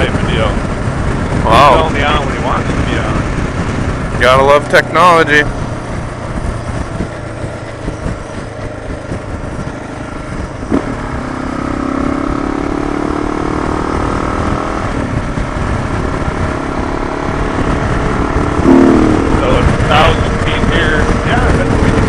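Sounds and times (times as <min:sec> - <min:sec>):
wind rush: 0:00.0 - 0:11.5, 0:13.6 - 0:22.0
motorcycle engine: 0:00.0 - 0:22.0.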